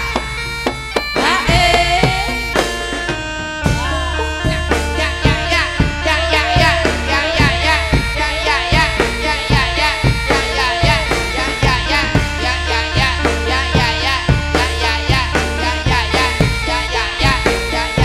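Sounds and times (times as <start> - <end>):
drum strokes: 0.0 - 18.0
melodic instruments: 0.0 - 18.0
person singing: 1.0 - 18.0.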